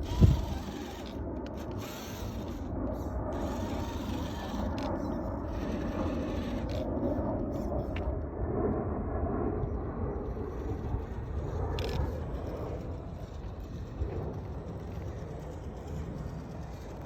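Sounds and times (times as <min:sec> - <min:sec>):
small electric drivetrain running: 0:00.0 - 0:08.8, 0:09.4 - 0:17.0
low outdoor rumble: 0:00.0 - 0:17.0.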